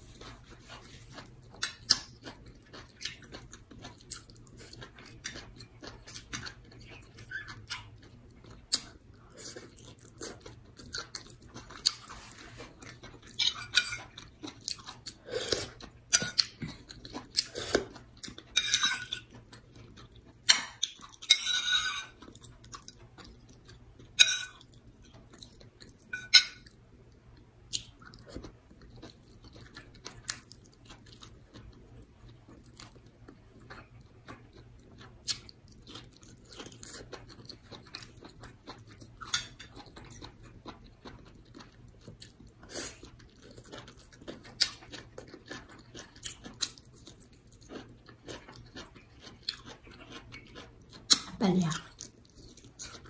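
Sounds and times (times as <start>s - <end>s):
chewing and lip smacks: 0.1s - 21.2s, 22.1s - 53.0s.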